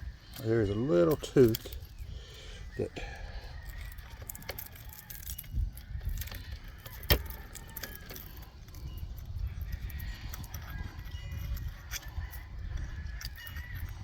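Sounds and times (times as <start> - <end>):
metal parts clinking: 0.2 - 2.4, 3.0 - 14.0.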